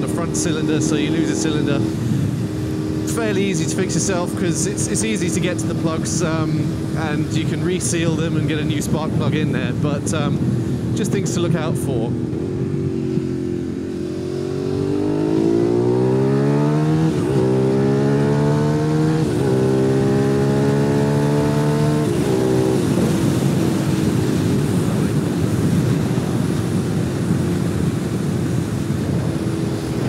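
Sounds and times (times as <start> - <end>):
motorcycle engine pulling hard: 0.0 - 11.0, 12.1 - 30.0
wind noise: 0.0 - 30.0.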